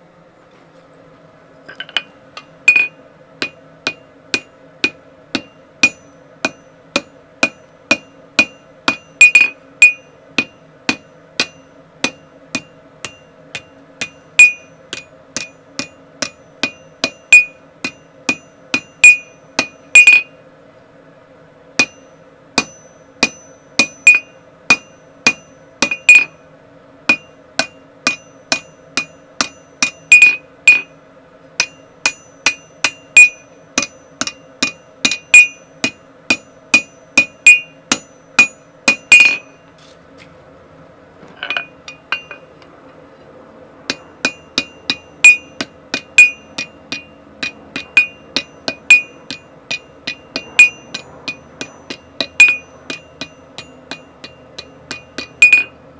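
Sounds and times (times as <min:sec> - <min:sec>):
steady low hum: 0:00.0 - 0:55.9
hammer ringing on anvil: 0:01.7 - 0:20.4, 0:21.8 - 0:26.5, 0:27.1 - 0:31.0, 0:31.6 - 0:39.7, 0:41.4 - 0:42.5, 0:43.9 - 0:55.8.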